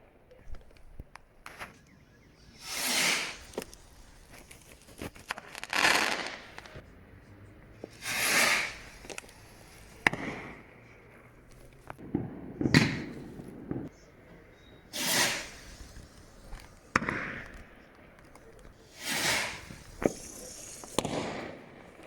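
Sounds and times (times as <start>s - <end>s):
fireworks cracks: 0.0s - 22.0s
fireworks rushing bursts: 1.4s - 6.9s, 7.7s - 22.0s.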